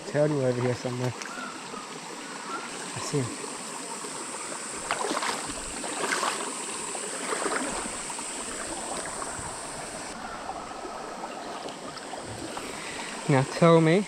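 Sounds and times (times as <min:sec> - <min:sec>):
creek water running: 0:00.0 - 0:14.0.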